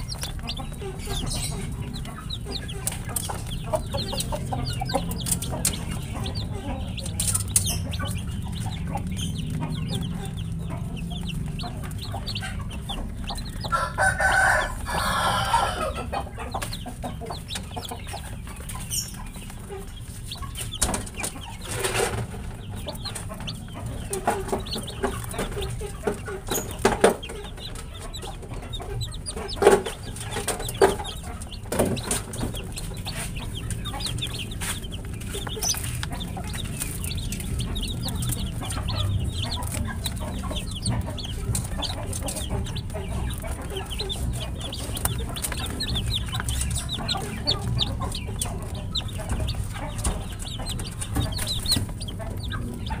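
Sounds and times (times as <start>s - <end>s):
baby chicks peeping: 0.0s - 53.0s
low steady rumble: 0.0s - 53.0s.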